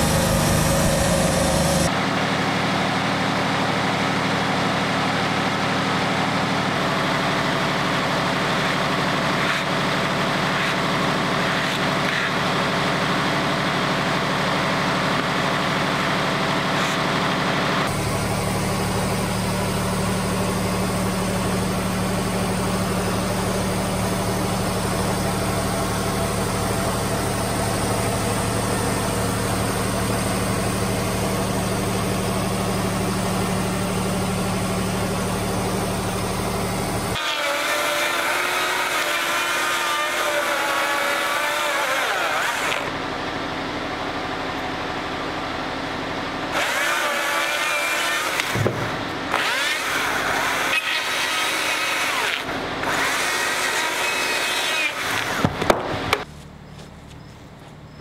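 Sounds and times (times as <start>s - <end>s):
band sawmill sawing a log: 0.0s - 43.6s, 44.7s - 56.3s.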